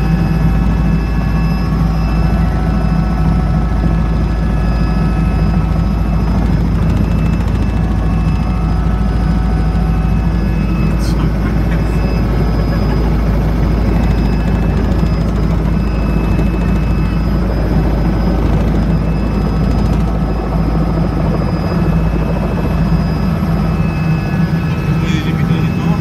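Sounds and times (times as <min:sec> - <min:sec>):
helicopter rotors and engine droning: 0:00.0 - 0:26.0.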